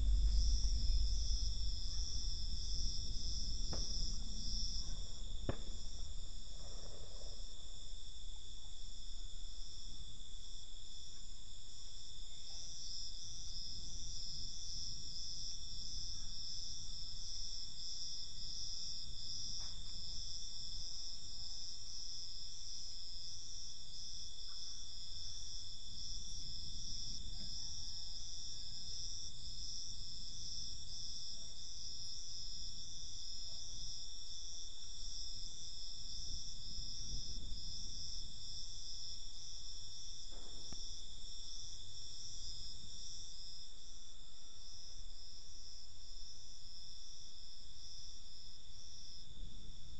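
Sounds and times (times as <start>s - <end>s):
crickets trilling: 0.0s - 49.9s.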